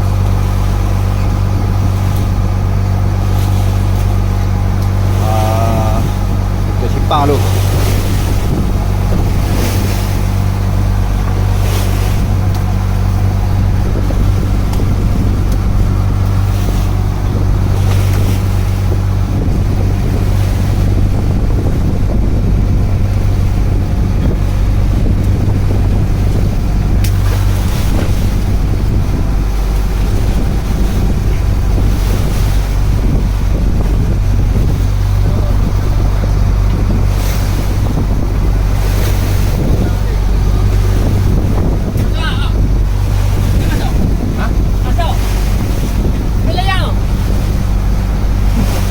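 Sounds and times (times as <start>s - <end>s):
boat engine droning: 0.0s - 48.9s
waves washing against hull: 0.0s - 48.9s
wind buffeting microphone: 0.0s - 48.9s.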